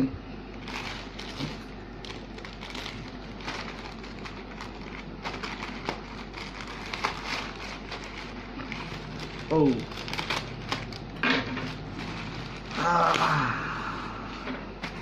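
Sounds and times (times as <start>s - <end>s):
packaging rustling and crinkling: 0.5s - 13.5s, 14.8s - 15.0s.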